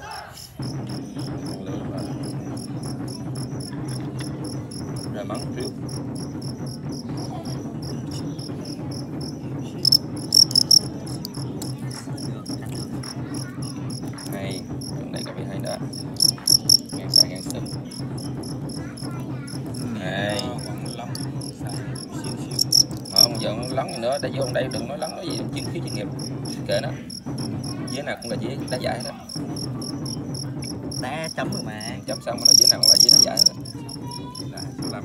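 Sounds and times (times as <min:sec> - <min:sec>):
crickets chirping: 0:00.6 - 0:35.0.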